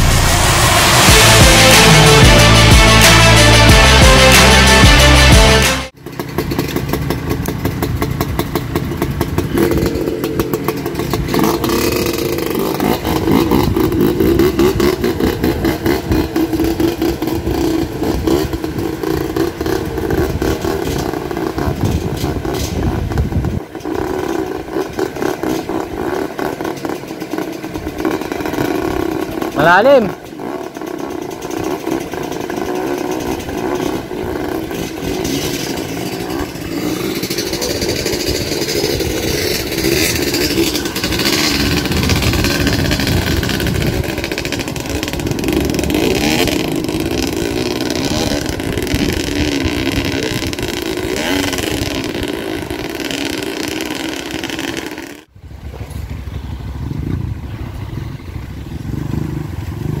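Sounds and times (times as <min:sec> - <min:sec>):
dirt bike engine running: 0:00.0 - 1:00.0.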